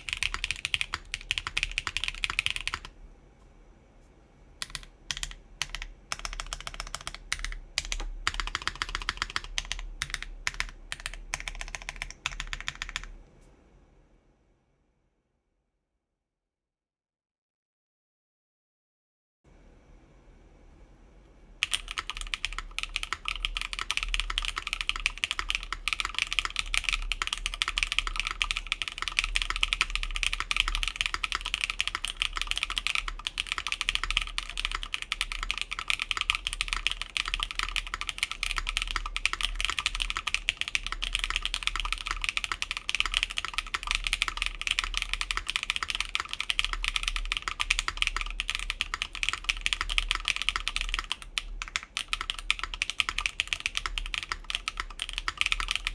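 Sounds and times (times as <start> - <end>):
mechanical keyboard typing: 0.0 - 2.9, 4.6 - 13.2, 21.6 - 55.9.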